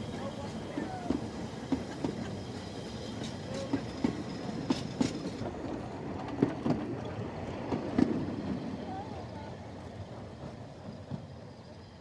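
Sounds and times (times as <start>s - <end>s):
railway carriages rumbling: 0.0s - 12.0s.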